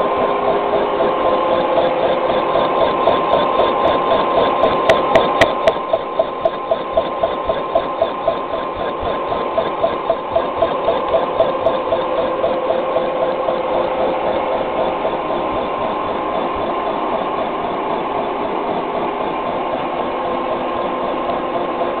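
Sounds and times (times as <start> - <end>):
milling machine whine: 0.0 - 22.0.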